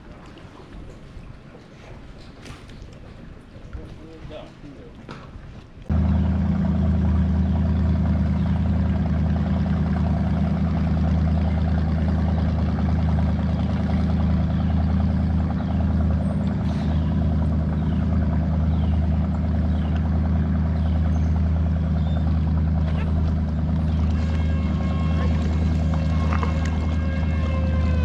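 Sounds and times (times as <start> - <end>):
boat motor running: 5.3 - 28.0.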